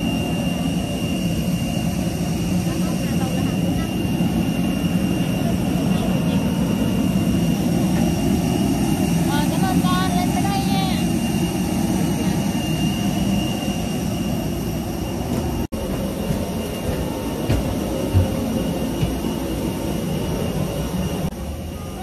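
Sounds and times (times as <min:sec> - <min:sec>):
jet aircraft roar: 0:00.0 - 0:22.0.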